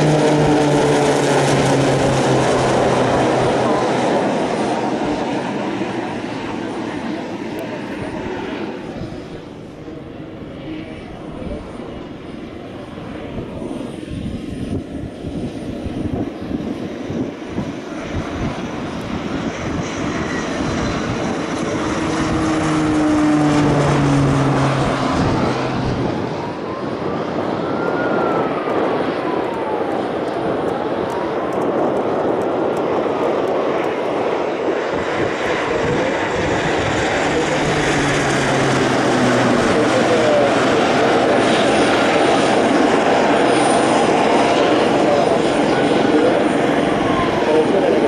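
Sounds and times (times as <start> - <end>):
propeller plane engine drone: 0.0 - 48.0.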